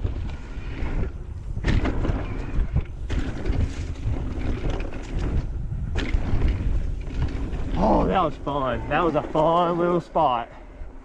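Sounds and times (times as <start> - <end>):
bike knocks and rattles: 0.0 - 9.8
wind buffeting microphone: 0.0 - 11.0.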